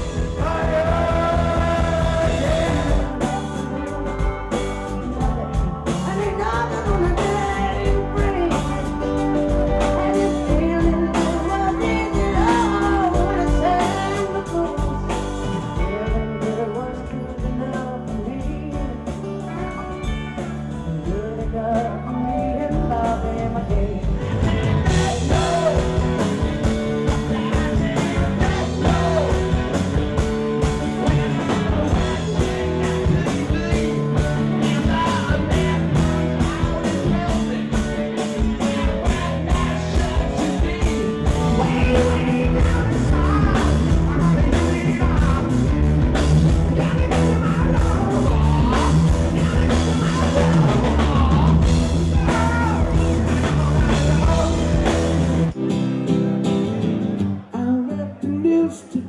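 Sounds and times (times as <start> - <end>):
man singing: 0.0 - 55.6, 57.4 - 59.0
drums with steady beat: 0.0 - 55.7
electric guitar: 0.0 - 59.0.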